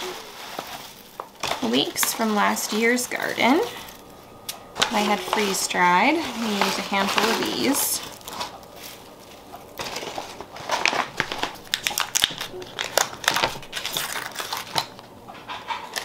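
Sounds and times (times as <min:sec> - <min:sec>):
foil wrapper crinkling: 0:00.0 - 0:16.0.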